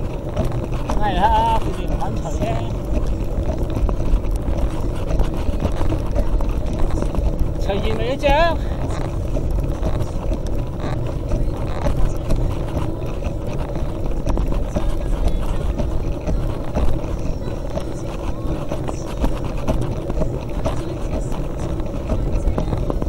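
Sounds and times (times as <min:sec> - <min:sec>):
bike rattles and clicks: 0:00.0 - 0:23.0
bike rumbling over trail: 0:00.0 - 0:23.0.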